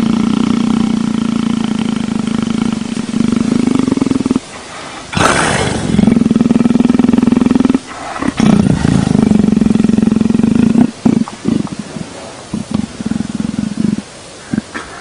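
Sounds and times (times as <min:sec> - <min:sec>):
leopard rumbling purr: 0:00.0 - 0:15.0.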